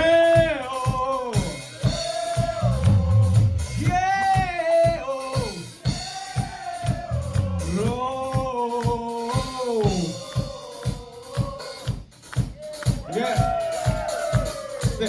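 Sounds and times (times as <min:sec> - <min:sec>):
drum kit beating: 0:00.0 - 0:15.0.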